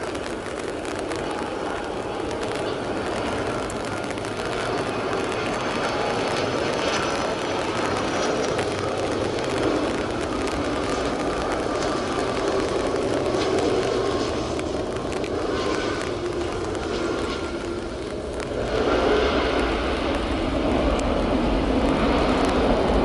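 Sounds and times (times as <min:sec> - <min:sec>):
jet engine noise with whine: 0:00.0 - 0:23.0.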